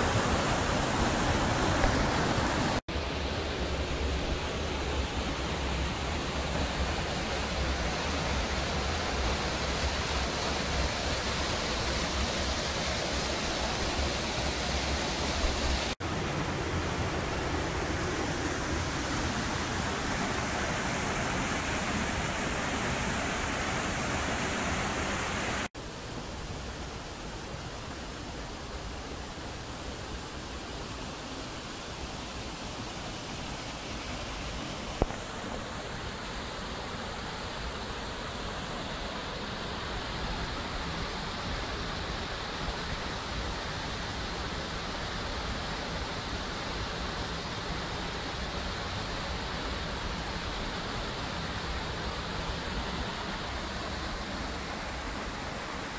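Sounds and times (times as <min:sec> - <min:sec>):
water rushing over boulders: 0:00.0 - 0:55.9.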